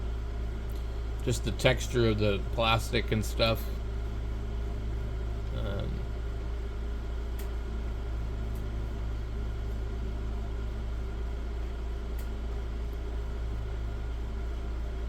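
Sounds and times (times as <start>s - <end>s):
motor or fan humming: 0.0s - 15.0s.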